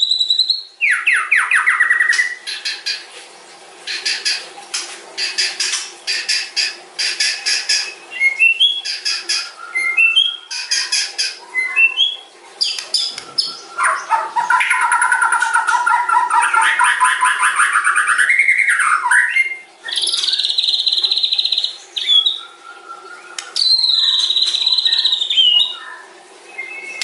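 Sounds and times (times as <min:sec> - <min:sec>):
songbird singing: 0:05.2 - 0:27.0.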